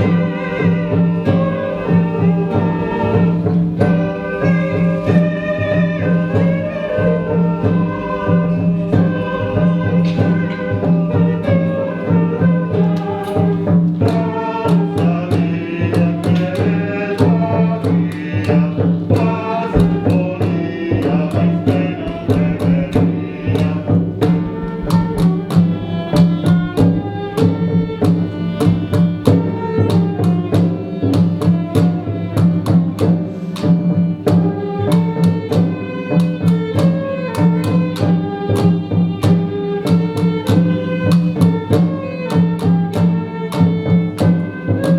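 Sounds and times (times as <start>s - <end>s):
hand drum beat: 0.0s - 44.9s.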